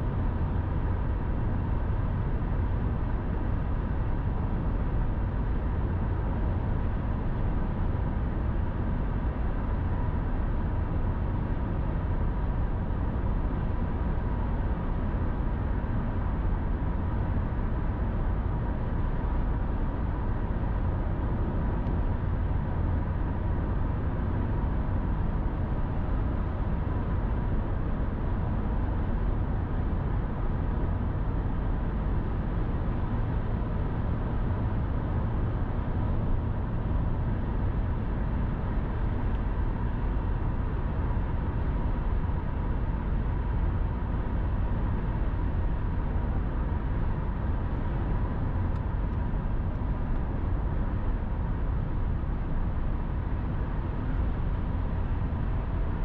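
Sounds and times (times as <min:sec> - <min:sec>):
faint steady whine: 0:00.0 - 0:56.0.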